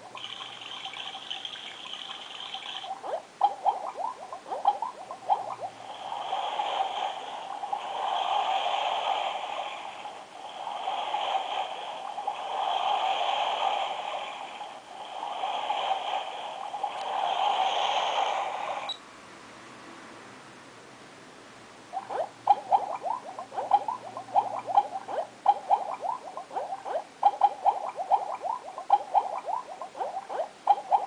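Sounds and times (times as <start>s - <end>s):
running water through small speaker: 0.0s - 19.0s, 21.9s - 31.0s.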